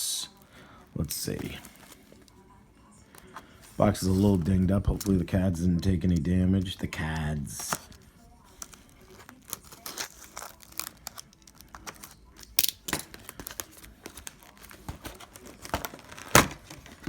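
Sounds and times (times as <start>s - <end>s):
wrapping crinkling and tearing: 3.2s - 17.0s.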